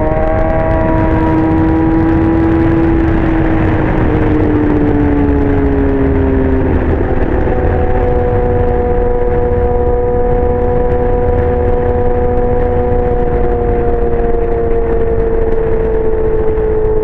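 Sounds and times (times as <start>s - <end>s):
constant rushing noise: 0.0s - 17.0s
motorcycle engine at high revs: 0.0s - 17.0s.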